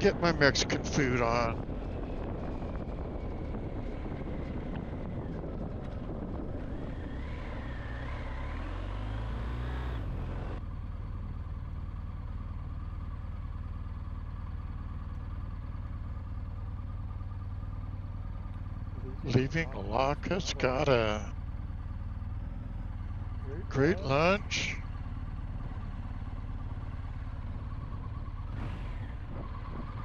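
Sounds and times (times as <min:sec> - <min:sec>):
motorcycle engine running: 0:00.0 - 0:30.0
road and wind noise: 0:00.0 - 0:30.0.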